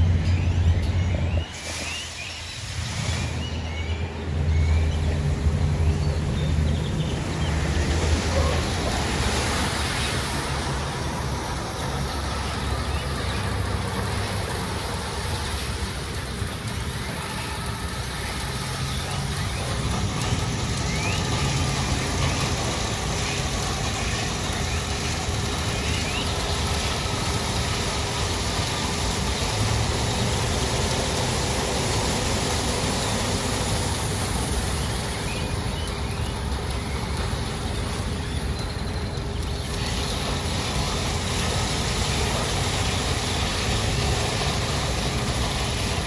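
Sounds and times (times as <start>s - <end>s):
vehicle wash rumble and hiss: 0.0s - 46.0s.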